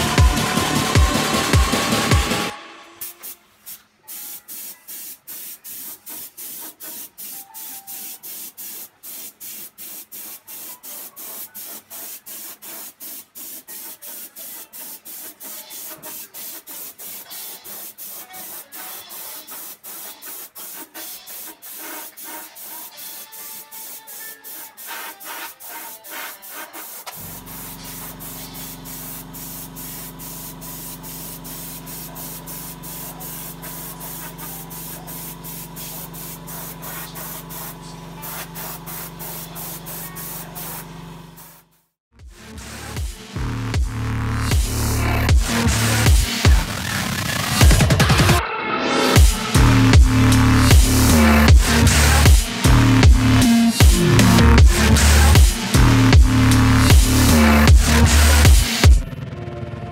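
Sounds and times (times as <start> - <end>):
spray gun hissing: 0.0 - 41.6, 49.2 - 58.9.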